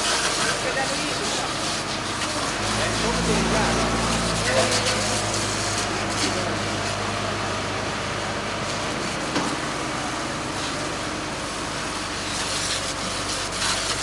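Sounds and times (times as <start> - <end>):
fire engine pump humming: 0.0 - 14.0
fire hose spraying water: 0.0 - 14.0.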